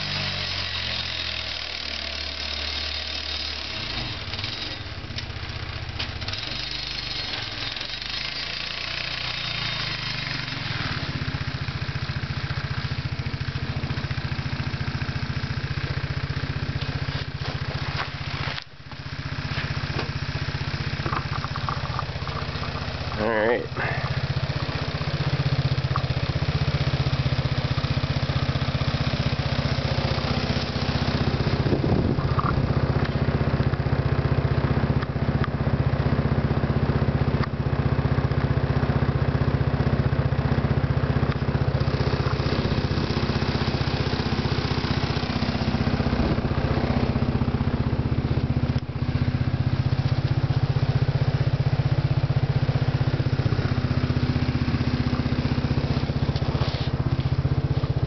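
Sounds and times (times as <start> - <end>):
atv engine idling: 0.0 - 58.0.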